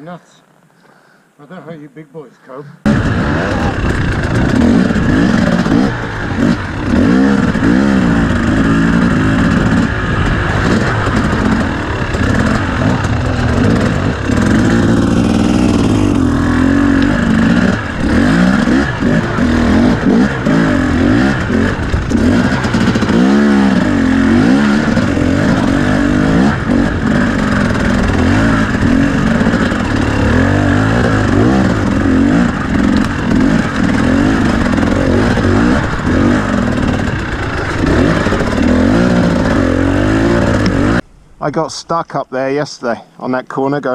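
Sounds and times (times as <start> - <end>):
motorcycle engine revving: 2.8 - 41.0.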